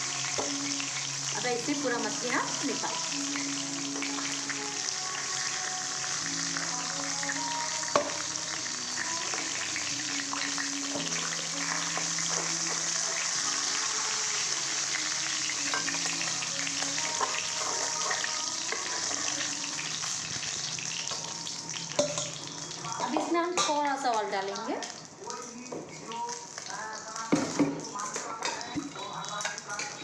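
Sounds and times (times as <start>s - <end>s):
hot oil sizzling in a pan: 0.0s - 30.0s.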